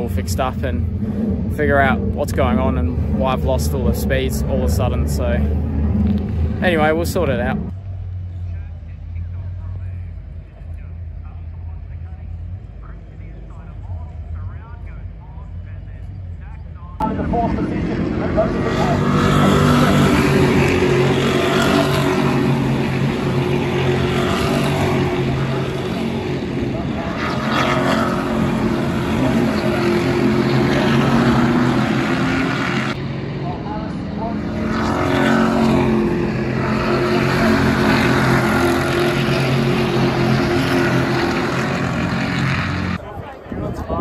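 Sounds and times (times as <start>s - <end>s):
engines droning: 0.0s - 44.0s
race cars driving past: 0.0s - 44.0s.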